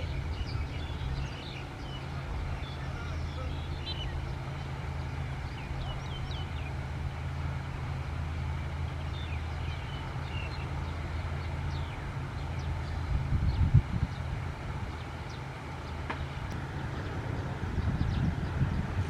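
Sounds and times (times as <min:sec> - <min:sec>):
birds chirping: 0:00.0 - 0:19.0
diesel engine humming: 0:00.0 - 0:19.0.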